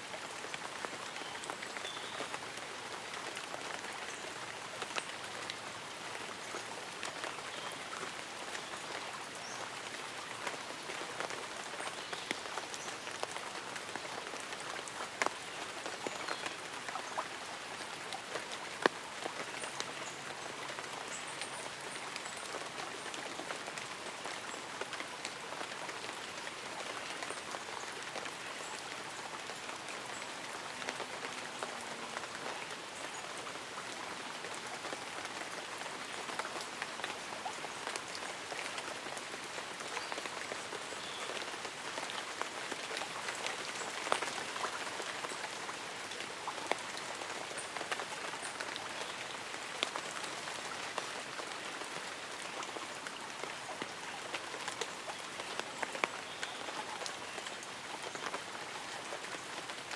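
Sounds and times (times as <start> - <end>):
light rain on leaves: 0.0 - 59.9.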